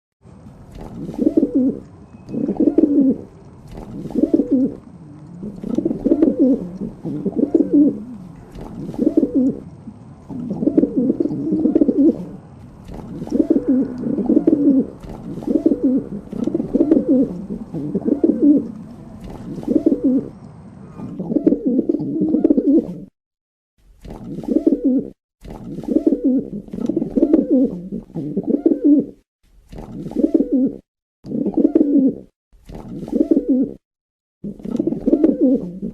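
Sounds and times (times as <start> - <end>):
pigeons cooing: 0.8 - 23.1, 24.4 - 25.2, 25.8 - 29.2, 30.0 - 32.3, 32.9 - 33.8, 34.4 - 35.9.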